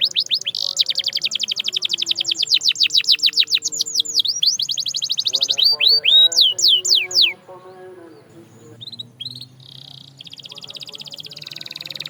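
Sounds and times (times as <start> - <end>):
buzzy bird trill: 0.0 - 12.0
canary singing: 0.0 - 12.0.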